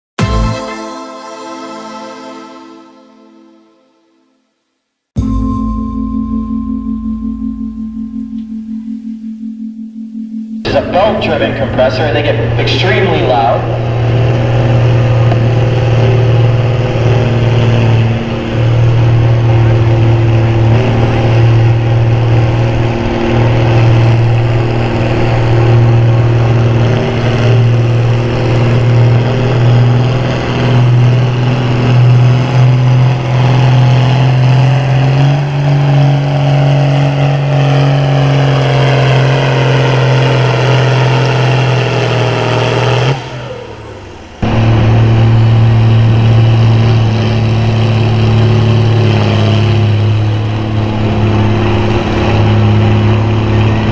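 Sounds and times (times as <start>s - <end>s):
tractor diesel engine running hard: 10.7s - 53.9s.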